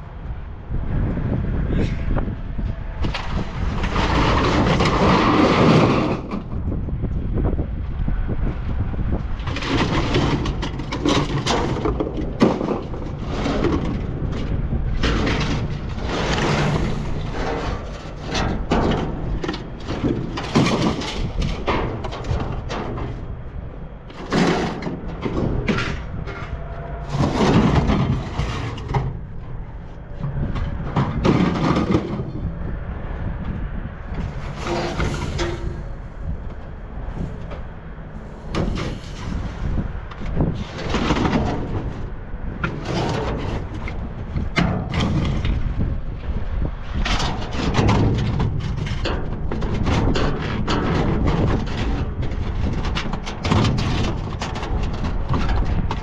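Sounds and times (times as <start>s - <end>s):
vehicle low rumble: 0.0s - 56.0s.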